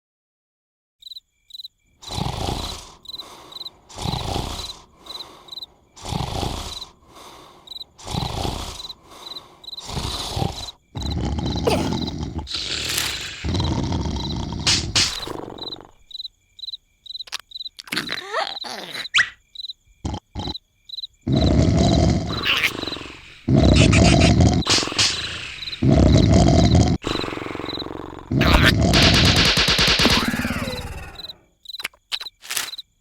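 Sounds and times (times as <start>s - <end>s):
crickets chirping: 1.0s - 33.0s
cartoon snoring: 2.0s - 16.1s, 17.3s - 19.4s, 20.0s - 20.6s, 21.2s - 32.7s.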